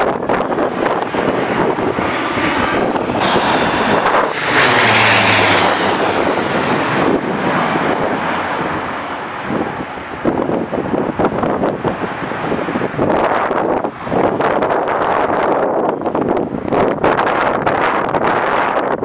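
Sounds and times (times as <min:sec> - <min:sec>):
aircraft engines passing with whine: 0:00.0 - 0:19.0
wind buffeting microphone: 0:00.0 - 0:19.0.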